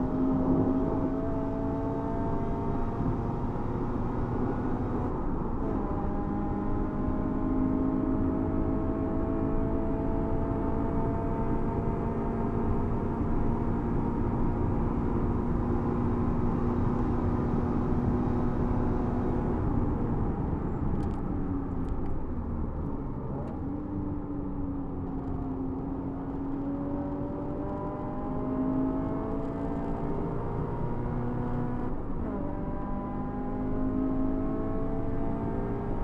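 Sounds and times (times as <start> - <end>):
car engine at full throttle: 0.0 - 36.0.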